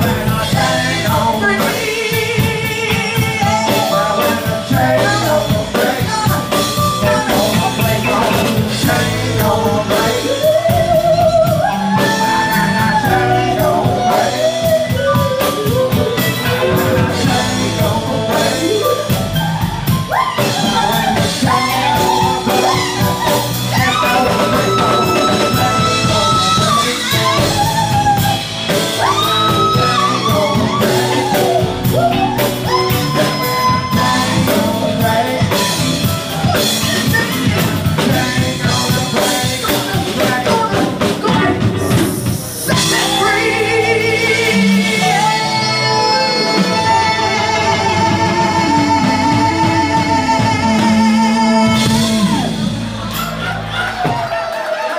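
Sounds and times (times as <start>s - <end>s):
woman singing: 0.0s - 52.6s
bass guitar: 0.0s - 54.8s
drum kit: 0.0s - 54.9s
electric guitar: 0.0s - 54.9s.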